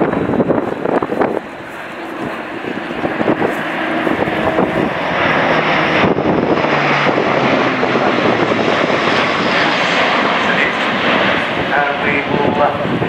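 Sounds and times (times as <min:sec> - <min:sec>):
propeller aircraft droning overhead: 0:00.0 - 0:13.0.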